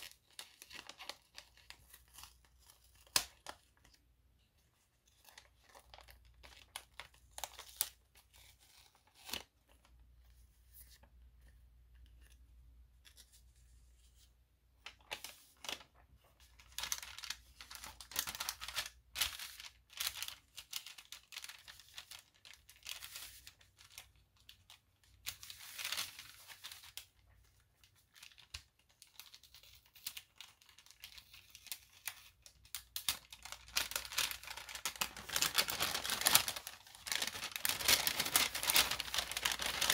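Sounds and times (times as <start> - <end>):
paper packaging crinkling: 0.0 - 4.0, 5.0 - 10.0, 14.8 - 39.9.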